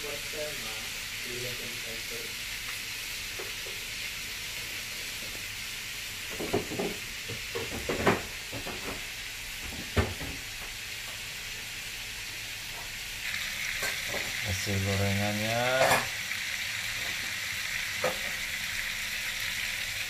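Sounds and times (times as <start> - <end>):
fish skin sizzling in oil: 0.0 - 20.0.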